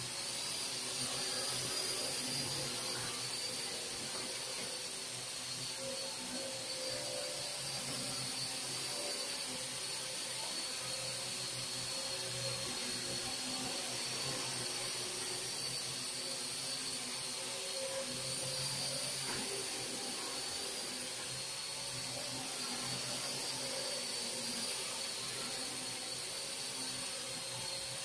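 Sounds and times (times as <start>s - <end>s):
drone rotors whirring: 0.0s - 28.0s.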